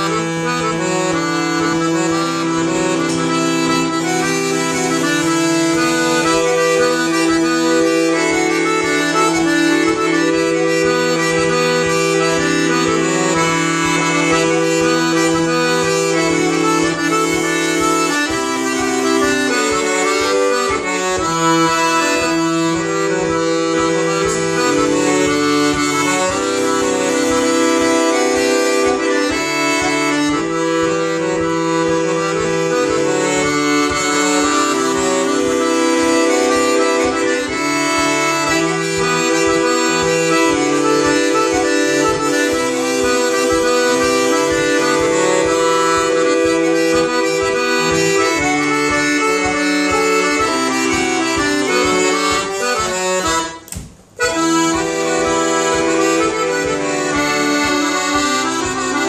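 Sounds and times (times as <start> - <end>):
accordion playing a tune: 0.0 - 59.0.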